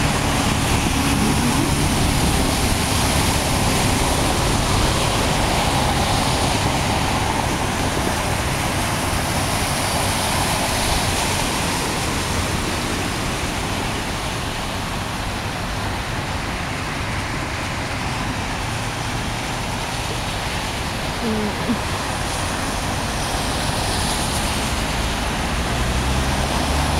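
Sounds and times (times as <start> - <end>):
cars splashing through floodwater: 0.0 - 26.9.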